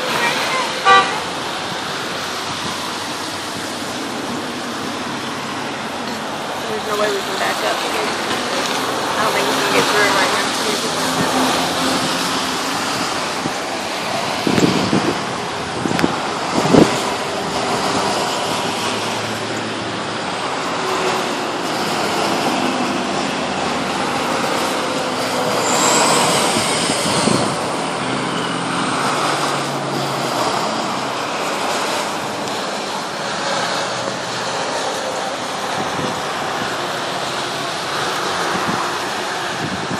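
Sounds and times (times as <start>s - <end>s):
vehicles driving past: 0.0s - 39.9s.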